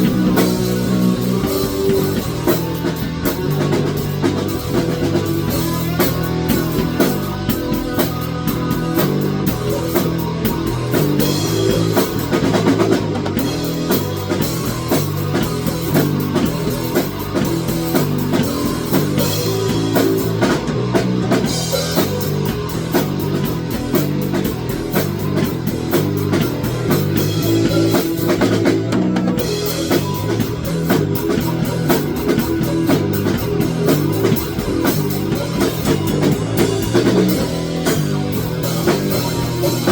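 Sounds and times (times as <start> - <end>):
rock music: 0.0 - 39.9.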